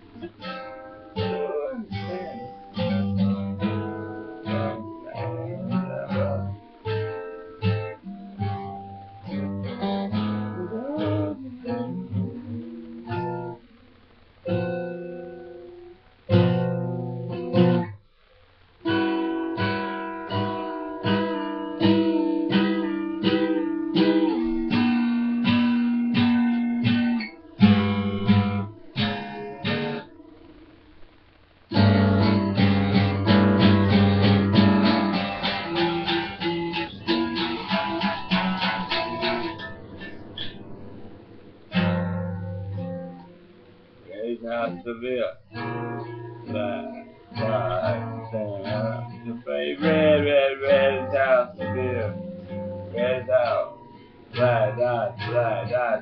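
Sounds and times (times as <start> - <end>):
guitar picking and strumming: 0.0 - 56.0.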